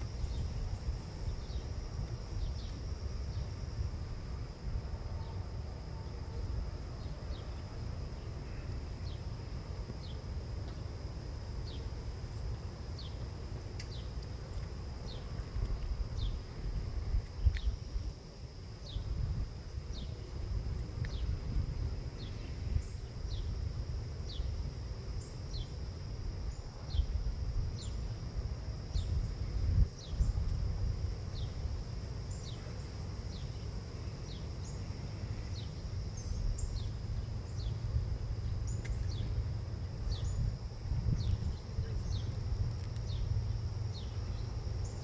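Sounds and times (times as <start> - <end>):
insect high-pitched buzz: 0.0 - 45.0.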